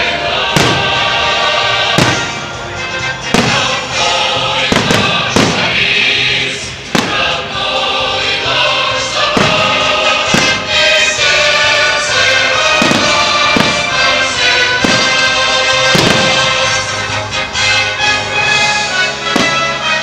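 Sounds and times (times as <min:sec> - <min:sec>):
choral music: 0:00.0 - 0:20.0
firework bangs: 0:00.4 - 0:17.1, 0:18.4 - 0:20.0.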